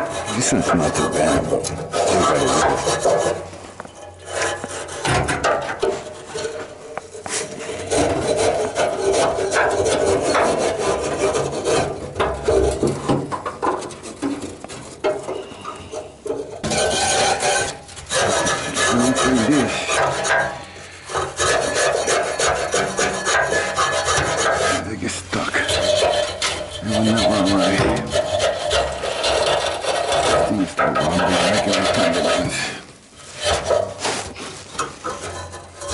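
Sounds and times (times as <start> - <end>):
wire brush scraping metal slots: 0.0 - 35.9.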